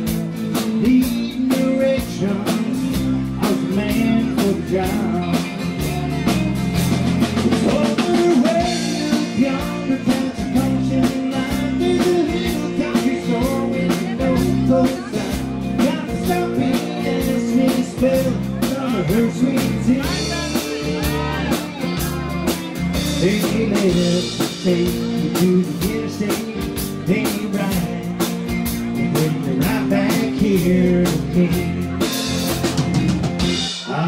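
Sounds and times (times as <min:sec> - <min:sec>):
drum kit beat: 0:00.0 - 0:34.0
guitar lines: 0:00.0 - 0:34.0.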